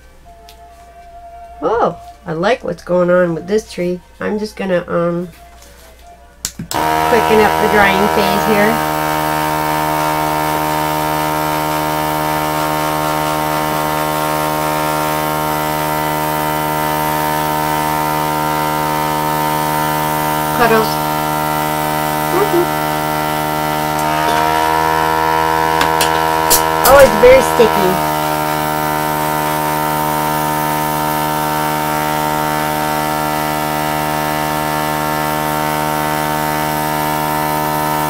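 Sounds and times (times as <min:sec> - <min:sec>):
electric hot-air blower humming: 0:06.5 - 0:38.0.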